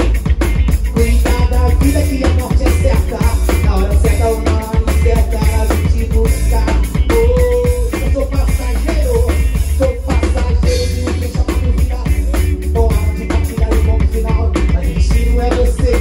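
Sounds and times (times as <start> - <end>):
drum kit: 0.0 - 16.0
electric bass playing low line: 0.0 - 16.0
lead vocal singing: 0.8 - 16.0.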